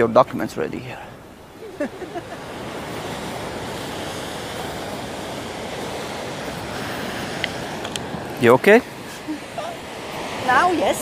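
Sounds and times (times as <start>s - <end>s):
surf breaking on rocky shore: 0.0s - 11.0s.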